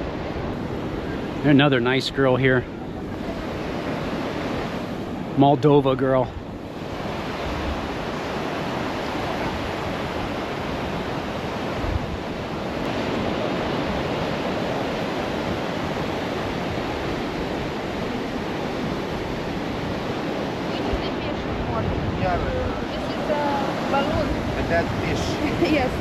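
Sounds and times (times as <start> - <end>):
sea waves washing onto beach: 0.0 - 26.0
wind buffeting microphone: 0.0 - 26.0.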